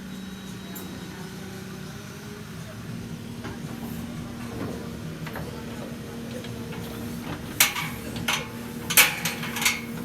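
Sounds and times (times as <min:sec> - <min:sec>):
backhoe loader engine drone: 0:00.0 - 0:10.0.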